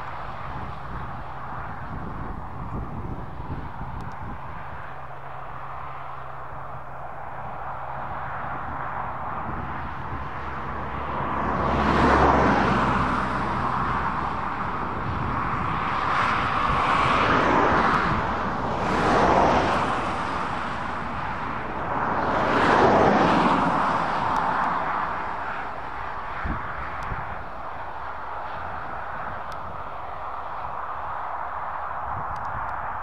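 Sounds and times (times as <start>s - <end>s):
tractor engine and harvester machinery: 0.0s - 33.0s.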